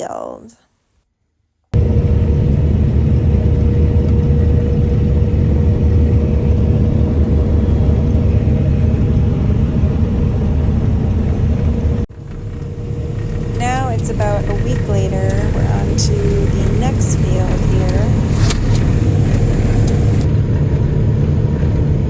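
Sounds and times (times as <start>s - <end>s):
combine harvester rumbling: 1.8s - 22.0s
steady machine whine: 1.8s - 22.0s.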